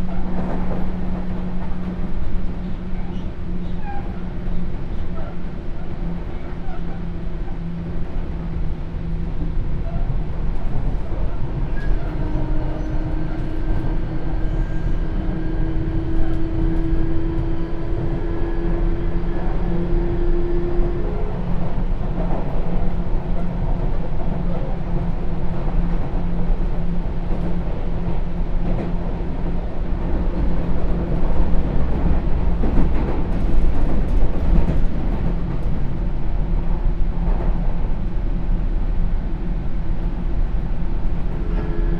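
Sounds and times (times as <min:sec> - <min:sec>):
train wheels rumbling on track: 0:00.0 - 0:41.9.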